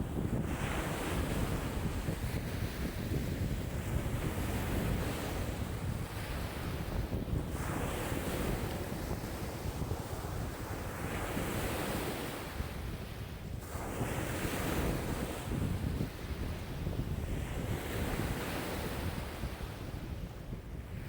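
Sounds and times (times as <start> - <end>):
waves breaking on shore: 0.0 - 21.0
wind buffeting microphone: 0.0 - 21.0.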